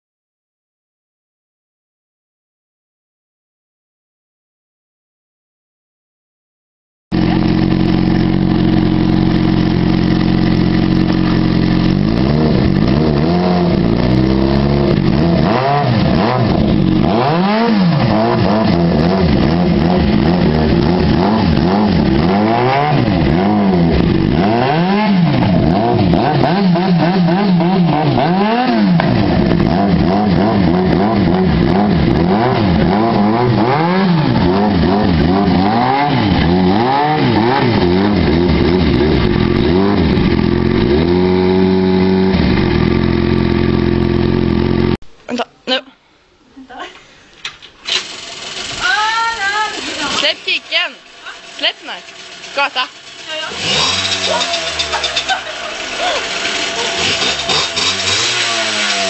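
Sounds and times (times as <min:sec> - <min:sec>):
motorcycle engine idling and revving: 0:07.1 - 0:45.0, 0:47.8 - 0:59.0.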